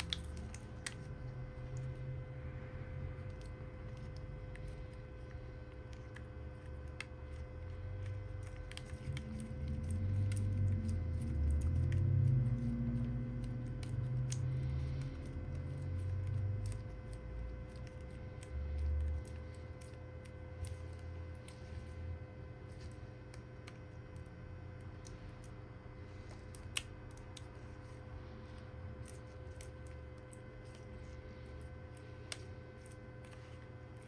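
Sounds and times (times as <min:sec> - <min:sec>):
steady electrical hum: 0:00.0 - 0:34.0.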